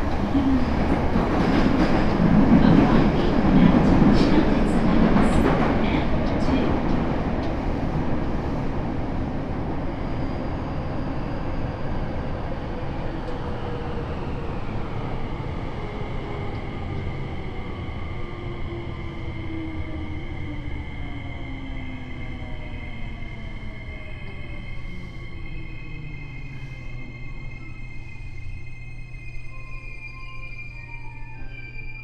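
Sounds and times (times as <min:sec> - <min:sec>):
train rumble: 0:00.0 - 0:29.8.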